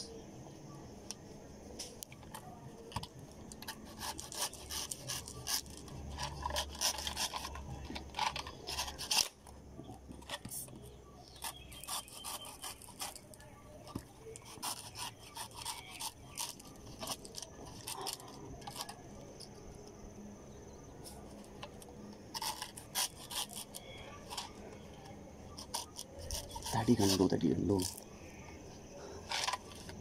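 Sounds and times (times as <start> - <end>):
knife scraping coconut husk: 1.8 - 19.5, 21.0 - 28.0.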